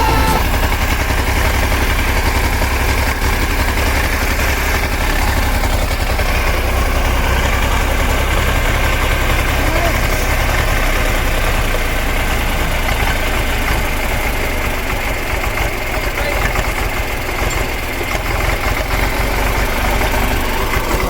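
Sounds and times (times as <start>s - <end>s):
tractor diesel engine rumbling: 0.0s - 21.0s.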